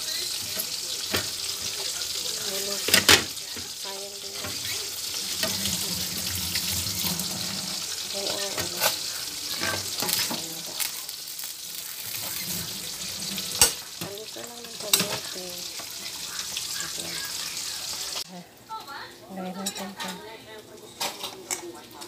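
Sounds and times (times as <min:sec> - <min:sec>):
pot hissing on stove: 0:00.0 - 0:18.3.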